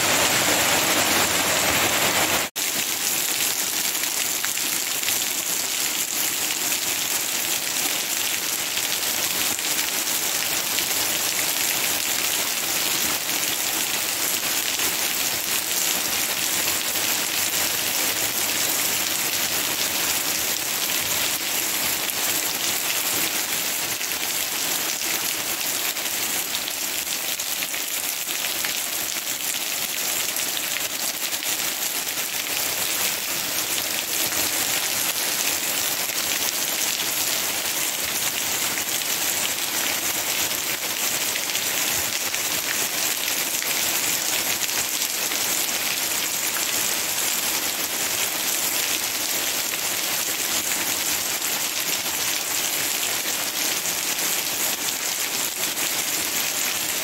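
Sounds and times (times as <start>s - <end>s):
rain falling through trees: 0.0s - 57.0s.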